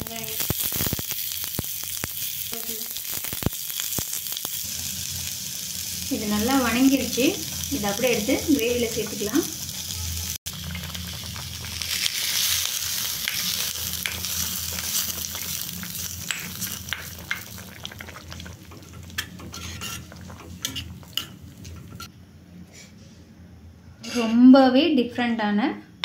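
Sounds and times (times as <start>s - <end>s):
hot oil sizzling: 0.0s - 22.1s.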